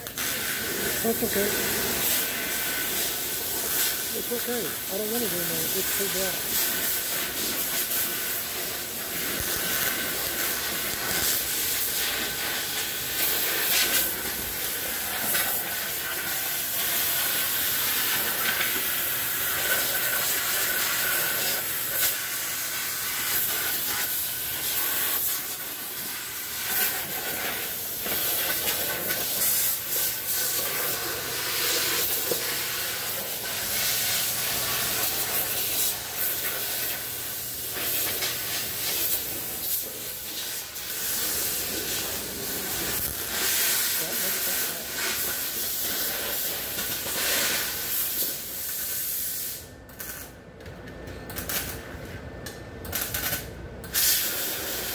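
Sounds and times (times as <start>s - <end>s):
welder crackling and hissing: 0.0s - 50.4s, 51.1s - 54.9s.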